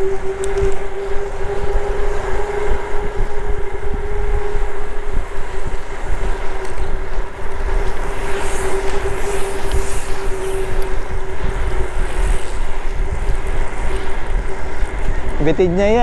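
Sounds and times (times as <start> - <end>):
constant hum: 0.0 - 16.0
wind buffeting microphone: 0.0 - 16.0.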